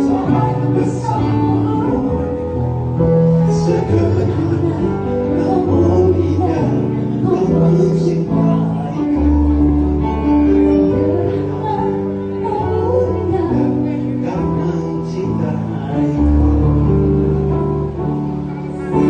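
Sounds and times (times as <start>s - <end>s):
person singing: 0.0s - 17.4s
live band playing pop ballad: 0.0s - 19.0s.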